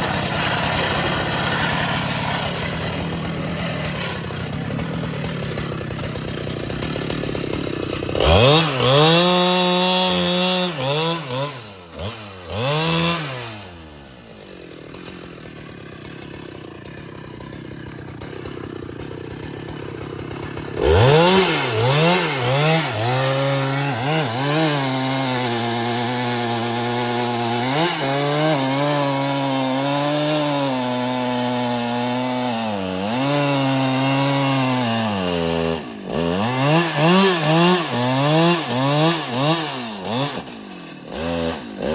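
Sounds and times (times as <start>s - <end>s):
chainsaw revving and cutting wood: 0.0s - 41.9s.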